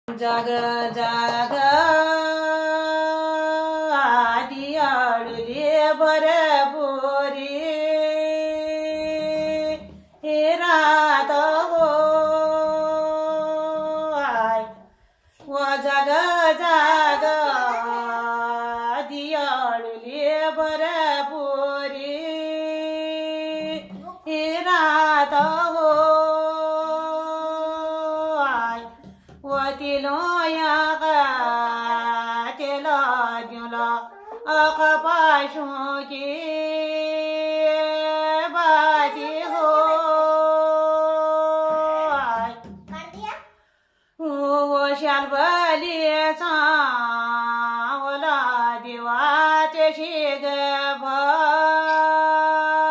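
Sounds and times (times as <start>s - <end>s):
woman singing folk song: 0.1s - 42.8s, 44.2s - 52.9s.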